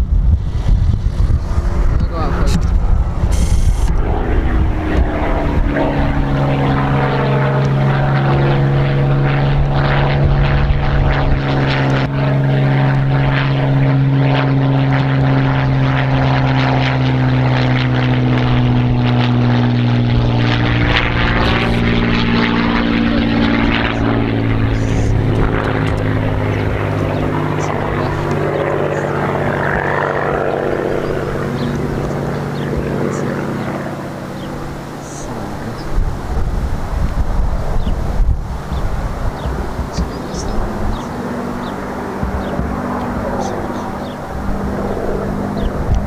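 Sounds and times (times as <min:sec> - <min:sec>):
propeller plane engine droning overhead: 0:00.0 - 0:46.0.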